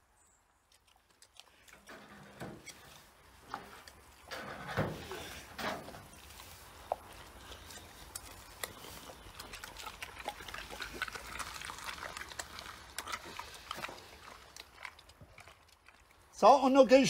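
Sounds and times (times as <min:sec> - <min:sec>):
pig chewing food: 0:00.6 - 0:16.7.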